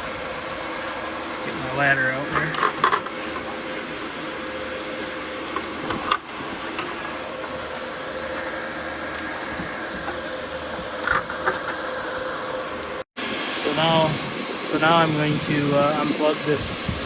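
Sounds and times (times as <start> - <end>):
cooling fans whirring: 0.0 - 17.0.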